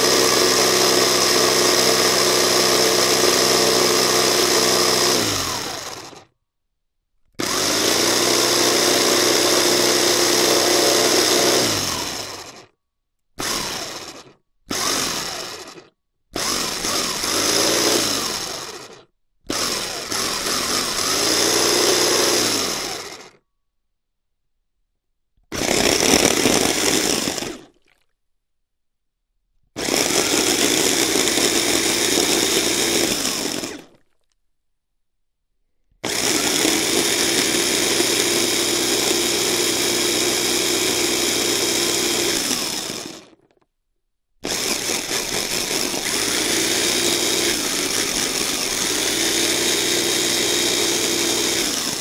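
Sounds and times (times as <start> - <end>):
electric motor running: 0.0 - 6.2, 7.4 - 12.7, 13.4 - 23.4, 25.5 - 27.7, 29.8 - 33.9, 36.0 - 43.4, 44.4 - 52.0.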